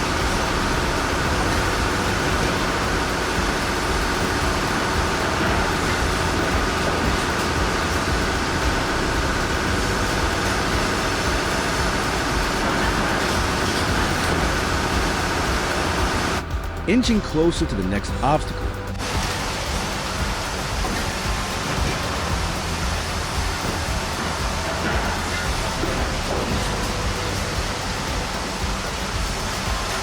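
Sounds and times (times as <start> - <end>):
heavy truck engine rumble: 0.0 - 30.0.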